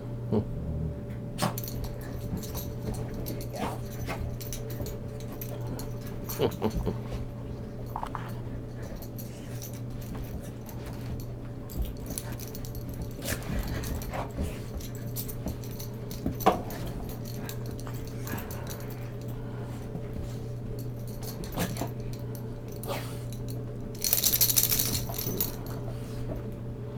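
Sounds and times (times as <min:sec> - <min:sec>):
collar tags jingling: 0:01.4 - 0:26.5
dogs scuffling and clicking: 0:01.4 - 0:26.7.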